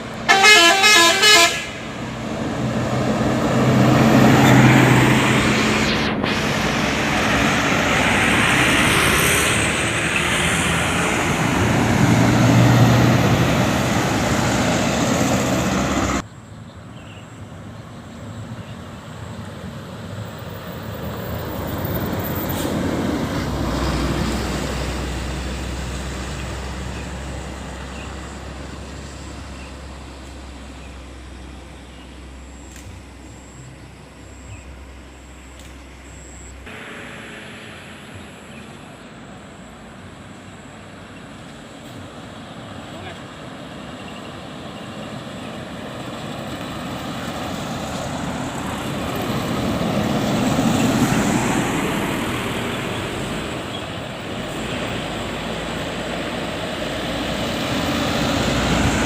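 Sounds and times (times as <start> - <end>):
heavy vehicles passing: 0.0 - 59.0
low engine hum: 1.6 - 59.0.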